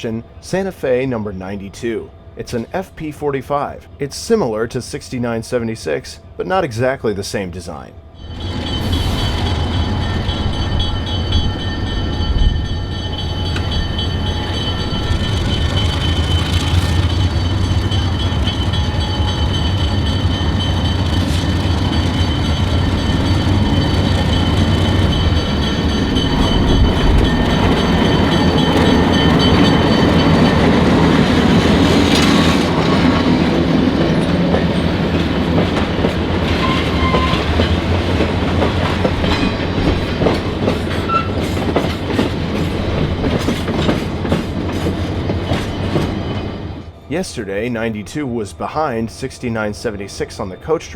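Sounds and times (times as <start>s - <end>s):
train rumbling on rails: 0.0s - 50.9s
diesel locomotive engine running: 8.2s - 50.9s.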